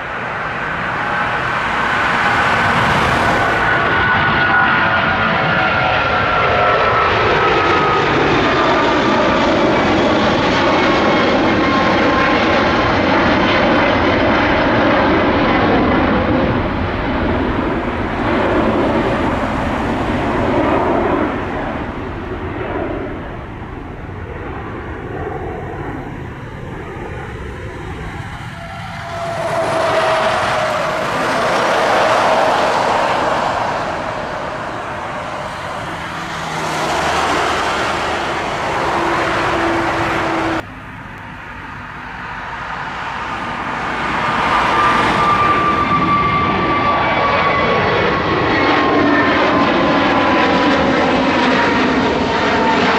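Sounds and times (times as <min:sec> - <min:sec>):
jet engines at takeoff power: 0:00.0 - 0:52.9.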